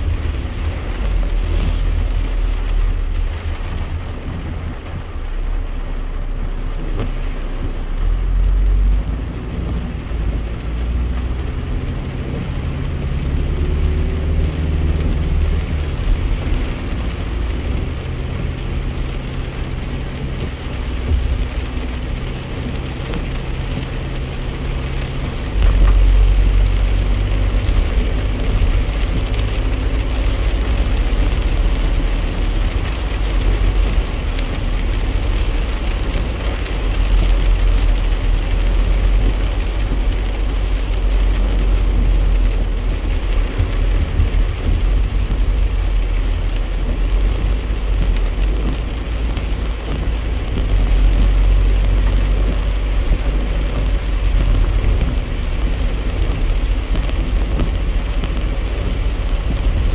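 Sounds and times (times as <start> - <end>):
rain and tyres hissing on wet road: 0.0 - 59.9
truck engine and road drone: 0.0 - 59.9.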